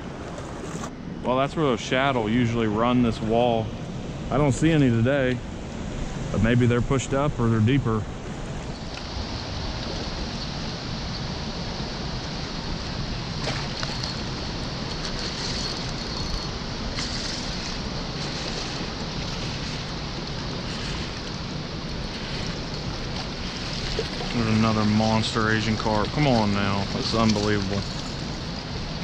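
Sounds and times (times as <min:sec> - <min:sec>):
turbulent river water rushing: 0:02.5 - 0:29.0.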